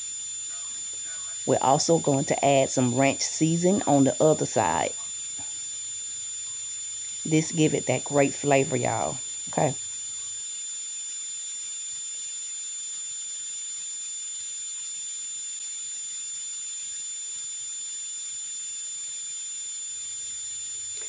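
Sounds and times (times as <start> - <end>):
high-pitched whine: 0.0 - 21.0.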